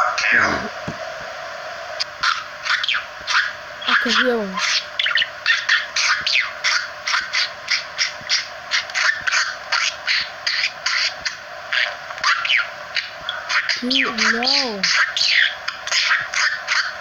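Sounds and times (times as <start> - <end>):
parrot squawking and chattering: 2.2 - 17.0.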